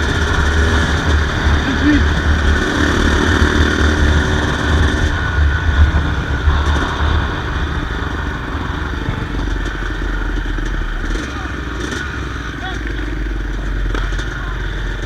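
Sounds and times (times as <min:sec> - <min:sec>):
two-stroke dirt bike engine: 0:00.0 - 0:15.0.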